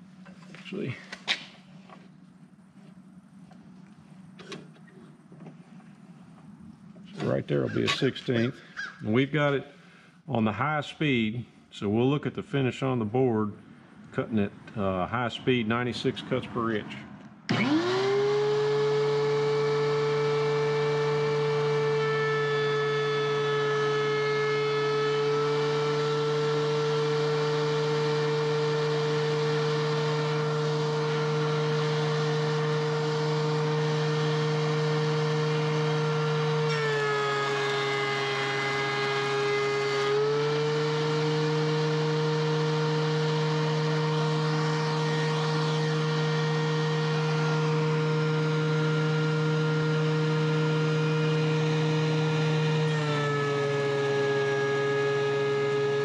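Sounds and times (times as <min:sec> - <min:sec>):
thickness planer whining: 0:00.0 - 0:10.1, 0:12.9 - 0:56.0.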